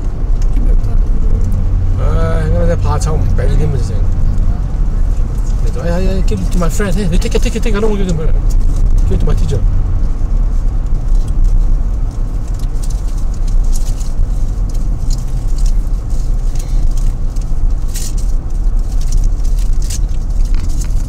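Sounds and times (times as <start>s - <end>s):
tyres and engine rumble: 0.0s - 21.0s.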